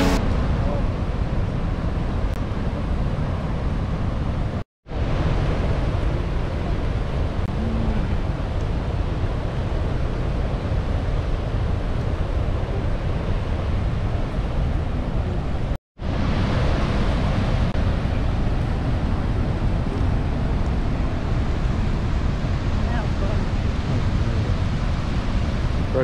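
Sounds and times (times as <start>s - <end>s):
low rushing noise: 0.0s - 26.0s.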